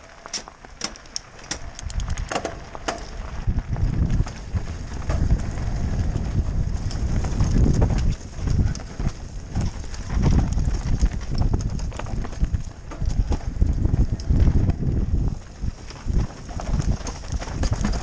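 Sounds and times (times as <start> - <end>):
bike clicks and rattles: 0.0 - 18.0
bike rolling over gravel: 0.0 - 18.0
tyres on dirt trail: 0.0 - 18.0
wind rumble on microphone: 0.0 - 18.0.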